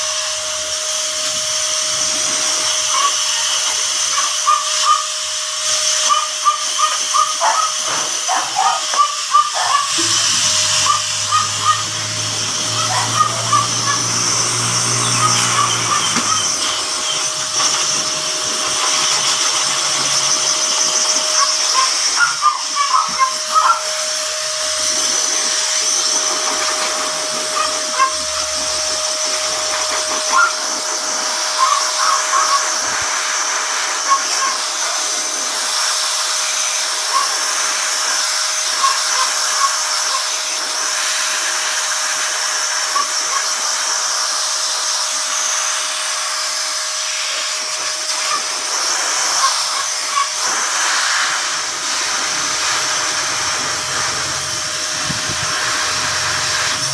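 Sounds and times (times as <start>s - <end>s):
pet blow dryer blowing: 0.0s - 56.9s.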